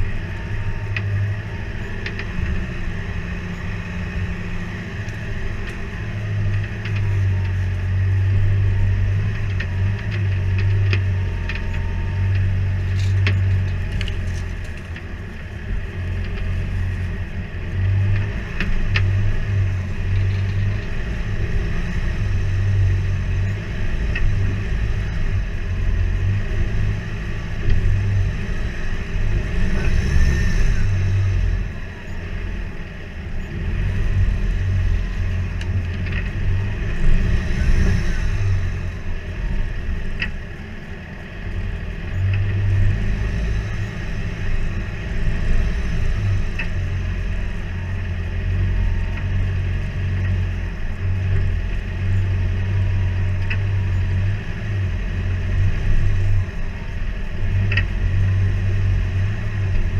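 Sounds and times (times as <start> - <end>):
engine rumbling under load: 0.0 - 59.9.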